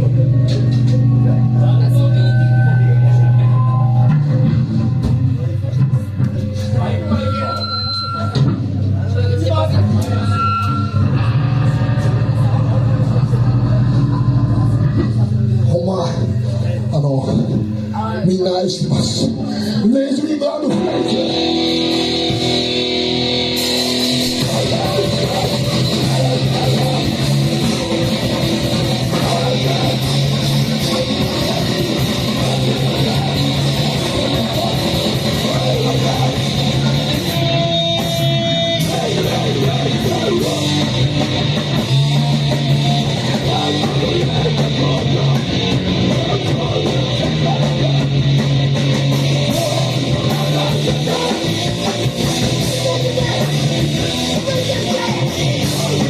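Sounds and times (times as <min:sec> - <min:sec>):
live band distorted music: 0:00.0 - 0:56.0.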